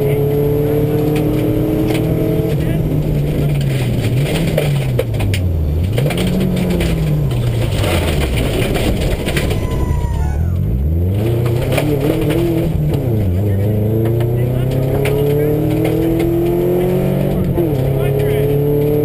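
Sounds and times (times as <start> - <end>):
rally car engine revving: 0.0 - 19.0
gravel rattling against car: 0.8 - 19.0.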